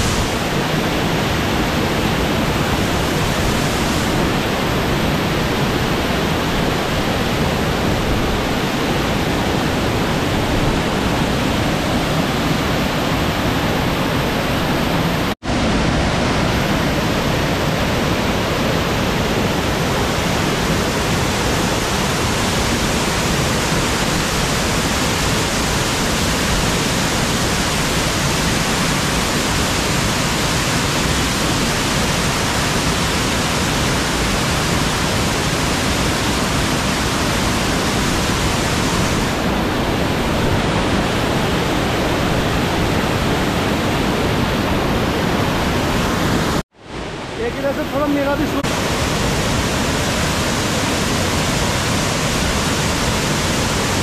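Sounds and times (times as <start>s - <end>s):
waterfall pouring over rocks: 0.0s - 13.6s, 15.7s - 43.3s, 47.4s - 54.0s.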